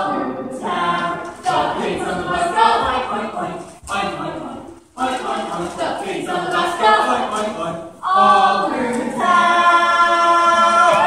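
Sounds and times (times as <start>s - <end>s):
voices singing without instruments: 0.0s - 11.0s.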